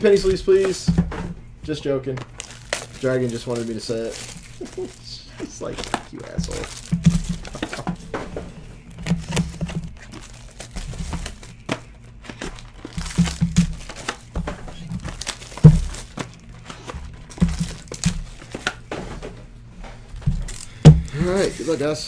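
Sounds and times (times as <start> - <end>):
cardboard boxes handled: 0.2 - 21.8
foil wrappers crinkling: 1.7 - 18.8, 20.0 - 22.0.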